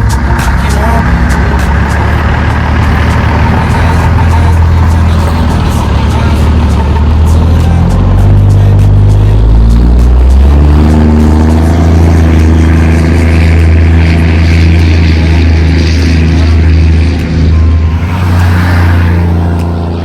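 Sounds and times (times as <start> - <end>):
diesel engine running: 0.0 - 20.0
music playing: 0.0 - 20.0.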